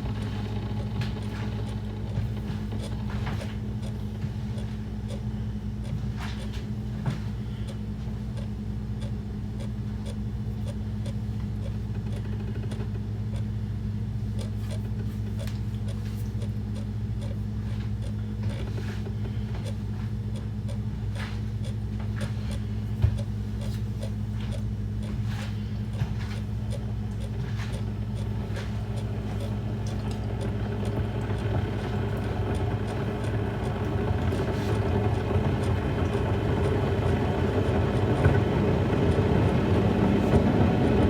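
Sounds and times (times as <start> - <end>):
faint clicks and taps: 0.0 - 5.2, 5.8 - 13.5, 14.4 - 41.0
low machine hum: 0.0 - 41.0.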